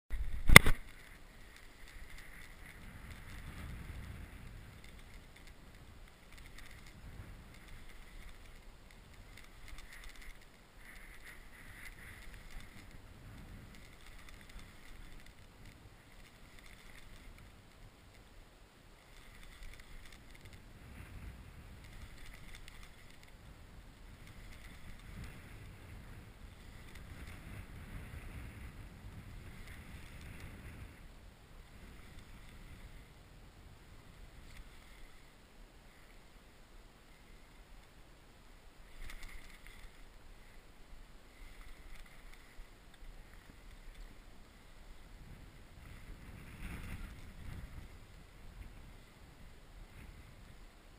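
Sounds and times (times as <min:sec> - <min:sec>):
gusty wind on microphone: 0:00.1 - 0:17.9, 0:19.0 - 0:35.3, 0:41.3 - 0:50.8.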